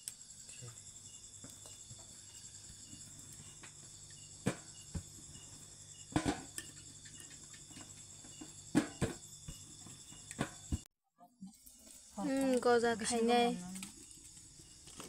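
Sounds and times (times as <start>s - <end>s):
insects chirring: 0.0s - 10.9s, 11.7s - 15.0s.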